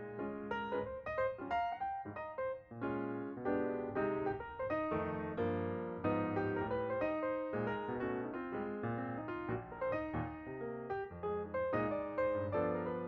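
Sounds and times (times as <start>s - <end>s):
piano background music: 0.0s - 13.0s.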